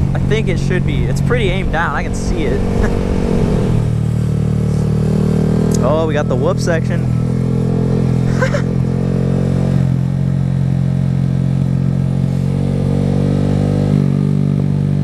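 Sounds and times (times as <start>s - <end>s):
motorcycle engine through loud exhaust: 0.0s - 15.0s.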